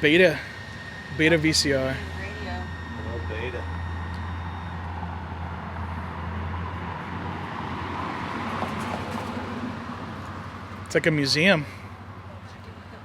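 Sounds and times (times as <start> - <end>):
passing road noise: 0.0 - 13.0
street traffic hum: 0.0 - 13.0.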